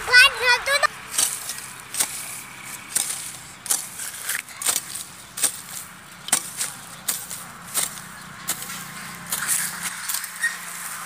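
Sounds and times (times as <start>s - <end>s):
hoe striking and scraping ground: 0.1s - 11.0s.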